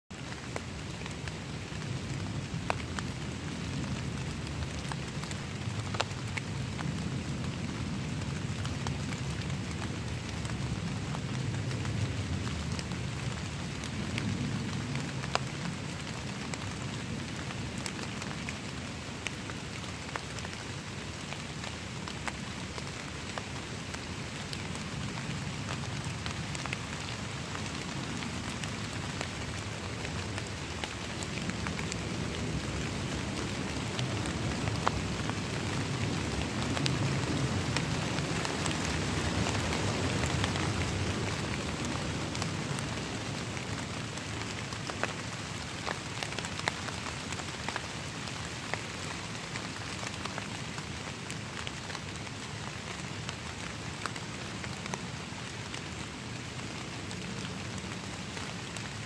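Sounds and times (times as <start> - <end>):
rain pattering on leaves: 0.1 - 59.0.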